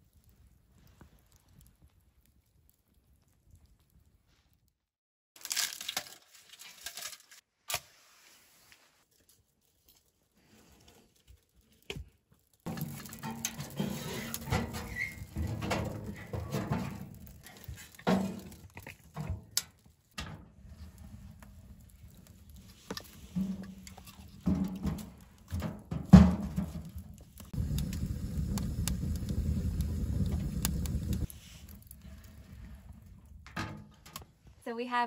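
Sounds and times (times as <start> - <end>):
fire crackling: 0.0 - 5.6, 8.9 - 34.7.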